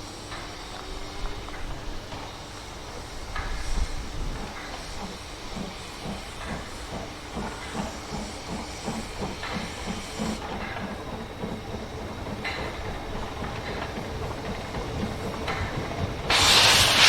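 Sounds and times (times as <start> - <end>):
steam hissing: 0.0 - 17.0
steam locomotive chuffing: 0.0 - 17.0.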